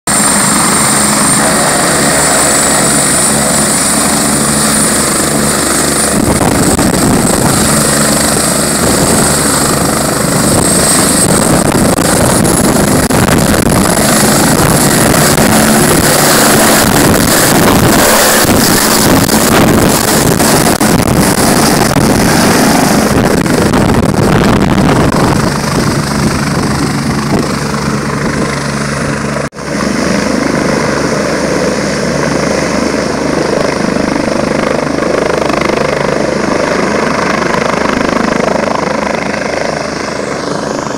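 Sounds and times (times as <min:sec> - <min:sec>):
helicopter rotors turning: 0:00.1 - 0:40.9
high turbine whine: 0:00.1 - 0:40.9.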